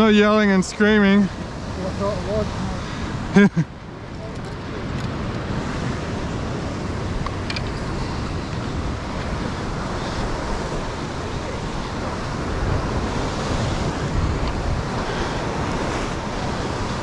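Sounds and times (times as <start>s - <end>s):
ocean surf breaking on rocks: 0.0s - 17.0s
wind buffeting microphone: 0.0s - 17.0s.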